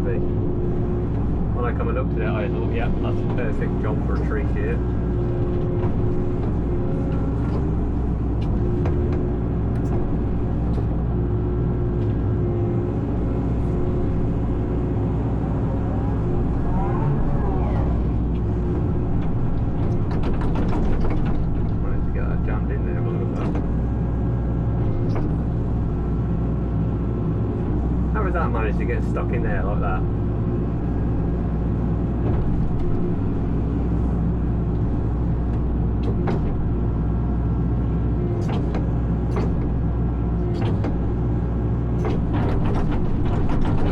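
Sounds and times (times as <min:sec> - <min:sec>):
diesel engine running: 0:00.0 - 0:43.9
hydraulics whining: 0:00.0 - 0:43.9.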